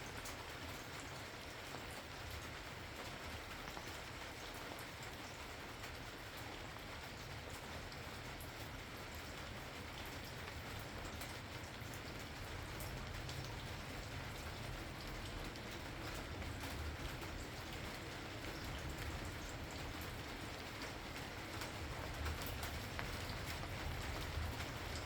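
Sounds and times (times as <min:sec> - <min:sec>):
raindrops ticking on a surface: 0:00.0 - 0:25.0.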